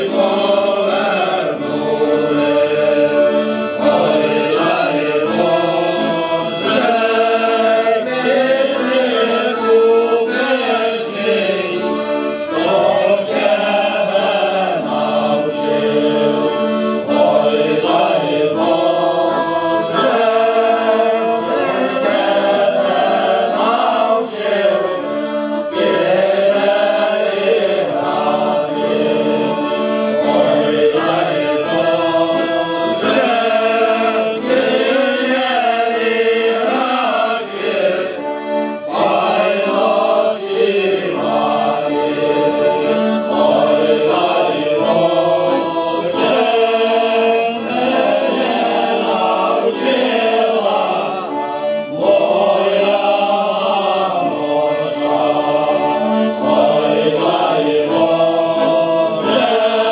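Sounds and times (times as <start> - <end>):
accordion: 0.0 - 59.9
male choir singing: 0.0 - 59.9
violin: 0.0 - 59.9.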